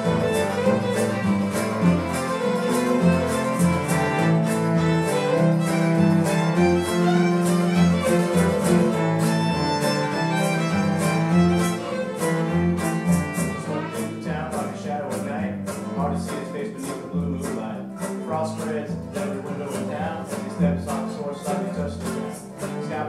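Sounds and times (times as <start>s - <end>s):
acoustic guitars strumming: 0.0s - 23.0s
cello: 0.0s - 23.0s
fiddle playing lead: 0.0s - 23.0s.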